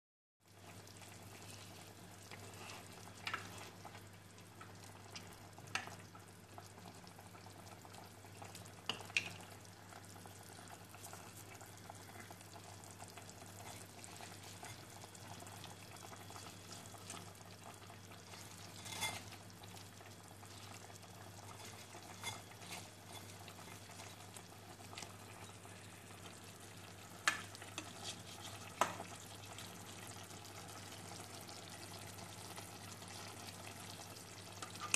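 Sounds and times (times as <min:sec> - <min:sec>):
soup bubbling: 0:00.5 - 0:34.9.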